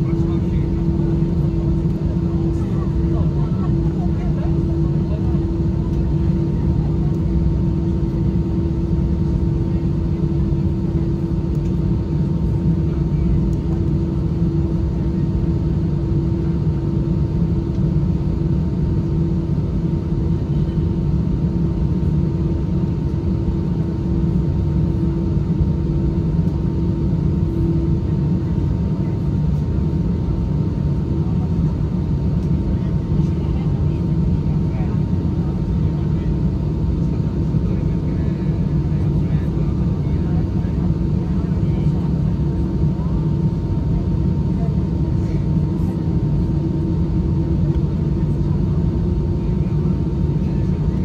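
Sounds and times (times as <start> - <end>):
aircraft cabin engine idle rumble: 0.0 - 51.0.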